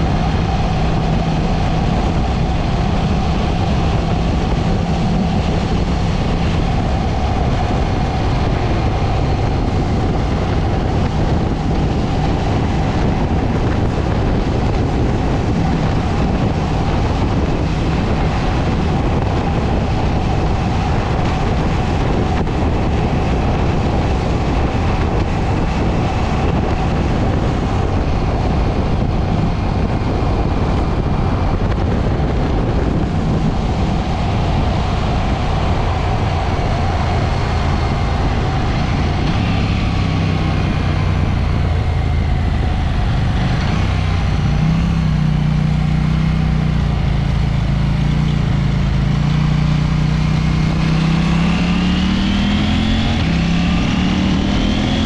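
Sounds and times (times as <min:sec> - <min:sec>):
motorcycle engine running: 0:00.0 - 0:55.0
road noise: 0:00.0 - 0:55.0
wind rush: 0:00.0 - 0:55.0.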